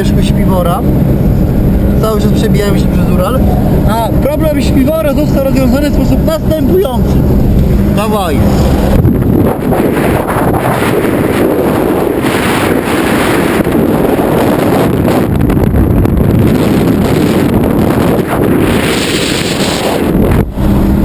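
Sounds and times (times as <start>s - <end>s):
car road noise: 0.0s - 21.0s
wind roaring on microphone: 0.0s - 21.0s.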